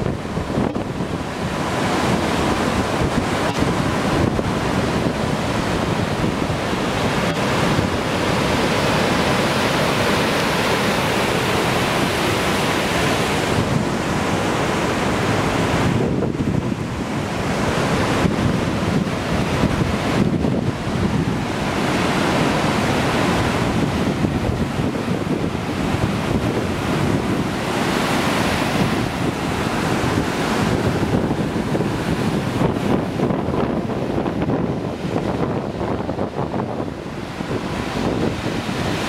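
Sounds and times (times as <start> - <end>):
whitewater cascades rushing: 0.0 - 39.0
wind buffeting microphone: 0.0 - 39.0.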